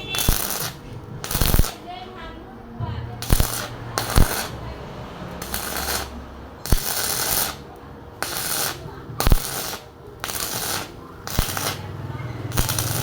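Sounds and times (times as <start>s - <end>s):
electric arc welding crackling: 0.0s - 2.1s, 3.2s - 13.0s.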